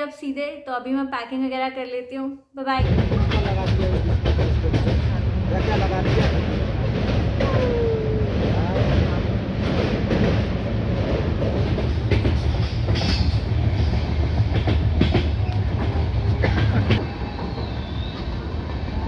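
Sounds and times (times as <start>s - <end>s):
train coach rumble: 2.8s - 19.0s.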